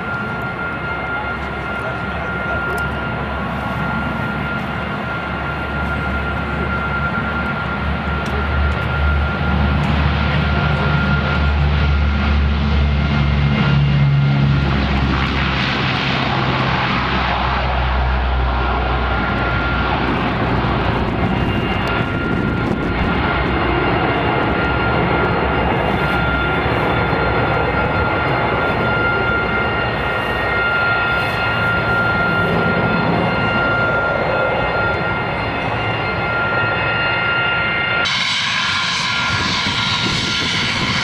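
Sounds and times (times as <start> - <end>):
turboprop engines droning: 0.0 - 41.0.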